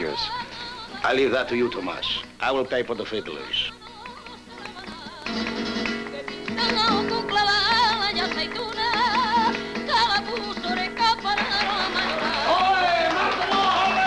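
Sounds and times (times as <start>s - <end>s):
woman singing with vibrato: 0.0s - 2.2s, 3.0s - 13.6s
strummed guitar: 0.0s - 14.0s.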